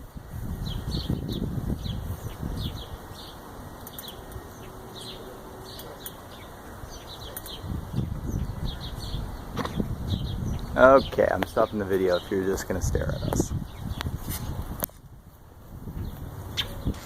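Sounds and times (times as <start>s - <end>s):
birds chirping: 0.0s - 17.0s
low rumble of wind: 0.0s - 17.0s.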